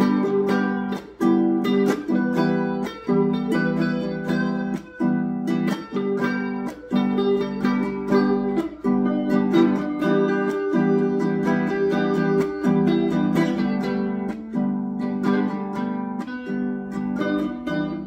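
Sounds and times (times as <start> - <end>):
ukulele and electric guitar strumming: 0.0 - 18.0.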